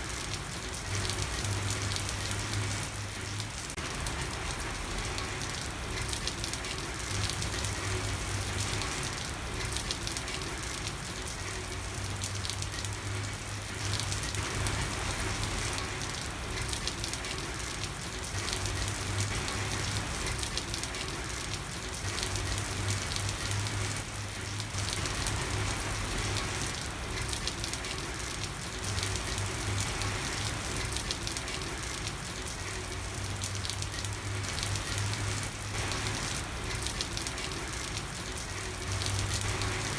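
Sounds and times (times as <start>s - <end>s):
rain pattering on a street: 0.0s - 39.9s.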